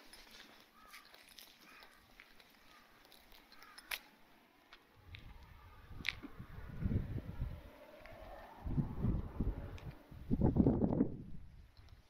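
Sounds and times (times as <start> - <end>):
faint street ambience: 0.0 - 12.0.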